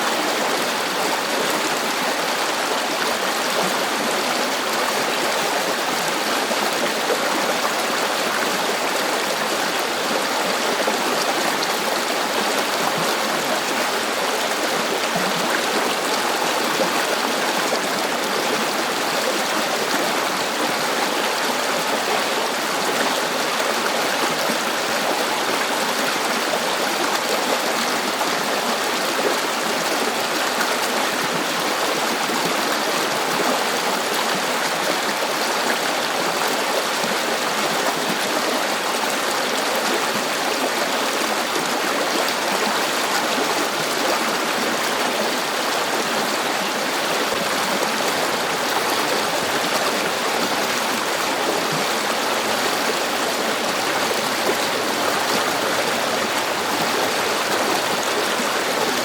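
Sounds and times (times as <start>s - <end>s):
river water flowing over rocks: 0.0s - 59.0s.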